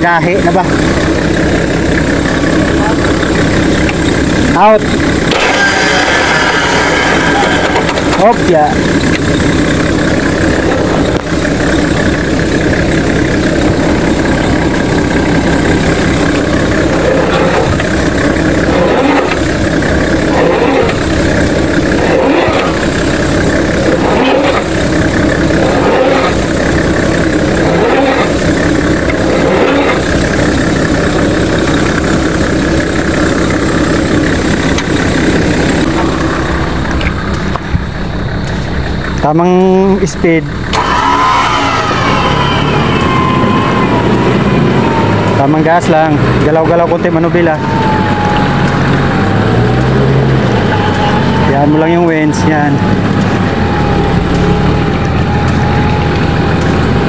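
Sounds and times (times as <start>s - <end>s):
off-road vehicle engine under load: 0.0s - 57.0s.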